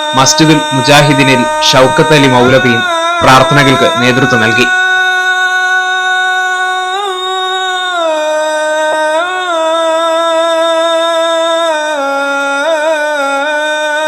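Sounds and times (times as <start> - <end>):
person chanting in long held notes: 0.0 - 14.0.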